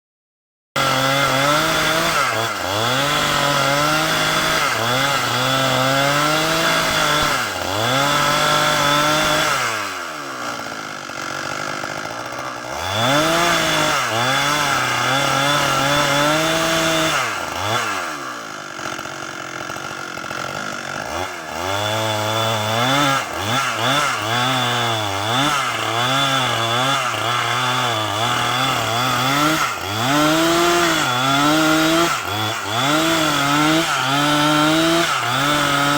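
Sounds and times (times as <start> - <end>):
chainsaw cutting a log: 0.8 - 35.9.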